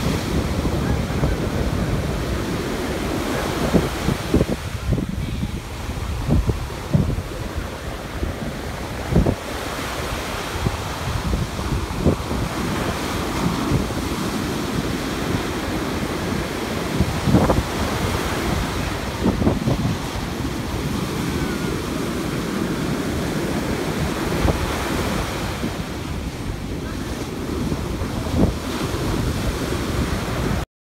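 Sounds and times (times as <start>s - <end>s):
surf waves breaking: 0.0s - 30.6s
wind buffeting microphone: 0.0s - 30.6s.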